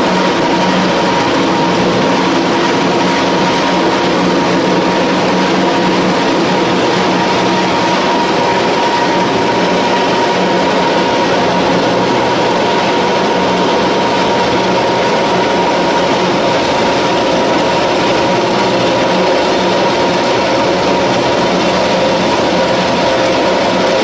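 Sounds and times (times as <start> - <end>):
pellet mill running: 0.0 - 24.0
steady mechanical whine: 0.0 - 24.0.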